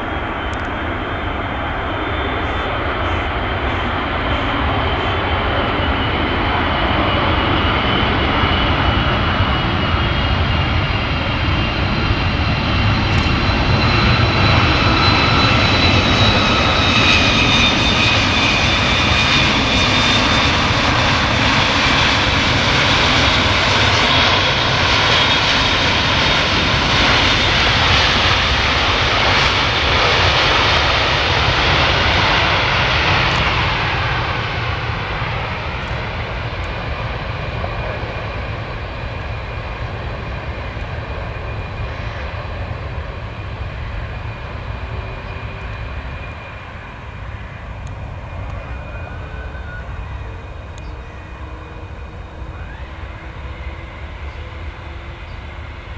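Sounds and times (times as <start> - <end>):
jet engines roaring with turbine whine: 0.0 - 55.9.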